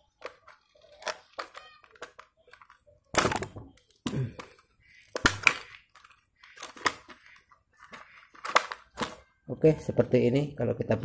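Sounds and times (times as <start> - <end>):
plastic packaging crackling: 0.0 - 9.4.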